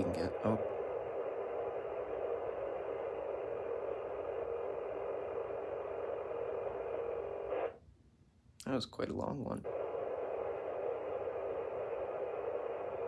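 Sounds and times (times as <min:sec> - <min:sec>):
harsh buzzing radio data noise: 0:00.0 - 0:07.8, 0:09.6 - 0:13.0.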